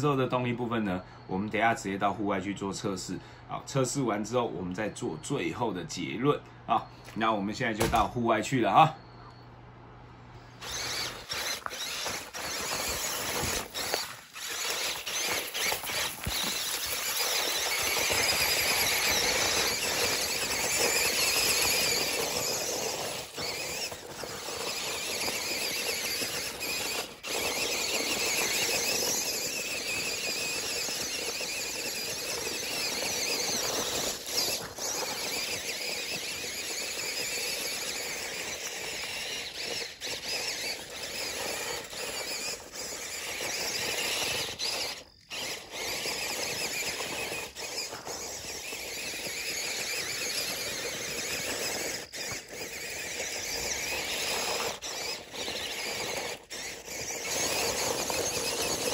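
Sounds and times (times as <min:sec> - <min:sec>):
toy truck motors whining: 0:10.4 - 0:58.9.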